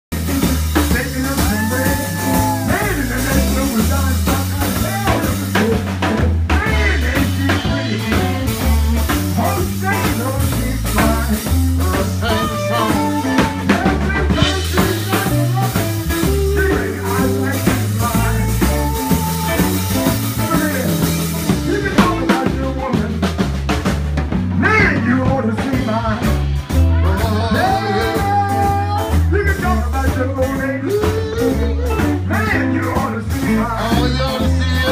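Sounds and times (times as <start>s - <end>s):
drum kit: 0.1s - 34.9s
live band playing blues-soul: 0.1s - 34.9s
walking bass line: 0.1s - 34.9s.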